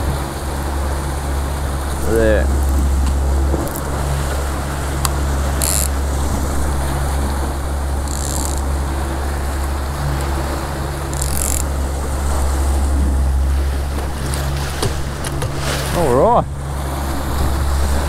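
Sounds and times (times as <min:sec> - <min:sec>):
outboard motor running: 0:00.0 - 0:18.0
water rushing in wake: 0:00.0 - 0:18.0.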